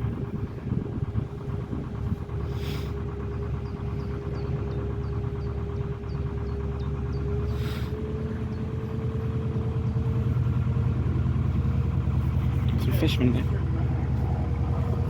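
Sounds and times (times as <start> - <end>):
boat diesel engine throbbing: 0.0 - 15.0.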